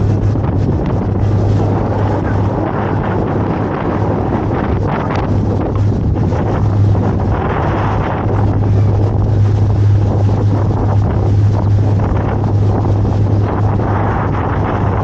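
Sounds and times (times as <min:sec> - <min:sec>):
boat engine humming: 0:00.0 - 0:15.0
wind buffeting microphone: 0:00.0 - 0:15.0.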